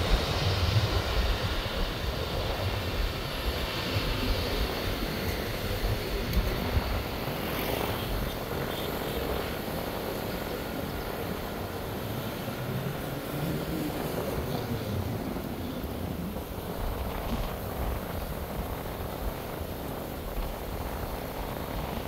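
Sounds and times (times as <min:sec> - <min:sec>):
road traffic roar: 0:00.0 - 0:22.0.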